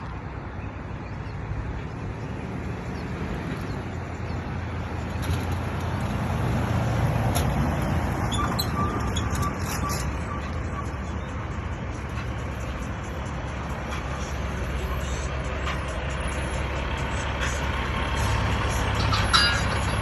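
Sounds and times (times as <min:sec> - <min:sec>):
truck diesel engine rumbling: 0:00.0 - 0:20.0.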